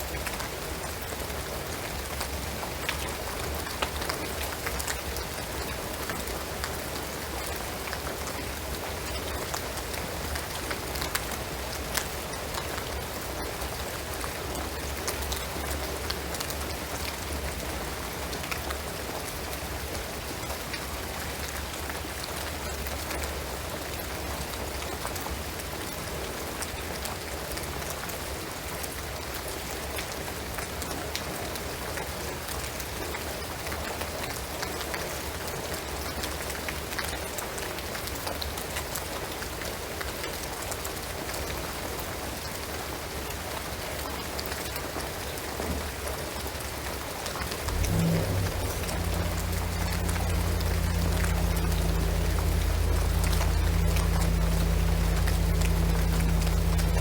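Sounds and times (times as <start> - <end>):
steady rain on roof and trees: 0.0 - 57.0.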